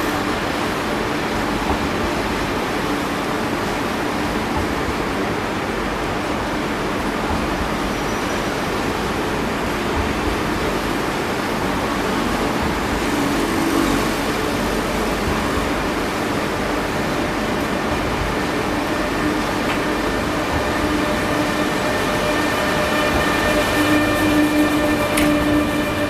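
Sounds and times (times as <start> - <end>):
train rumbling past slowly: 0.0 - 26.0.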